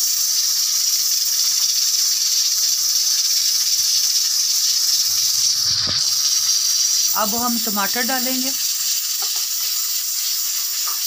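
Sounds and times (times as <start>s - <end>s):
onions sizzling in hot fat: 0.0s - 11.0s.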